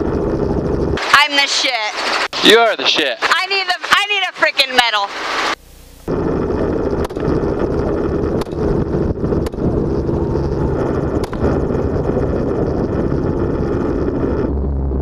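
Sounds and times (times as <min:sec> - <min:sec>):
helicopter engine and rotor: 0:00.0 - 0:14.4.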